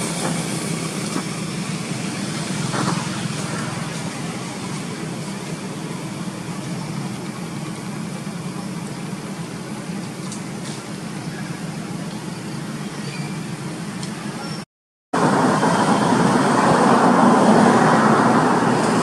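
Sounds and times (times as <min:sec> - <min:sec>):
outdoor background rumble: 0:00.0 - 0:14.6, 0:15.2 - 0:19.0.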